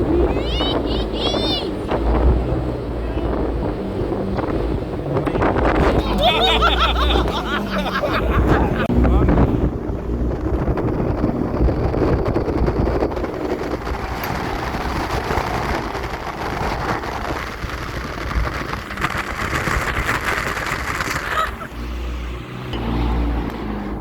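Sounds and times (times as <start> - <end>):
rushing wind: 0.0 - 24.0
speedboat engine rumble: 0.0 - 24.0
water noise: 0.0 - 24.0.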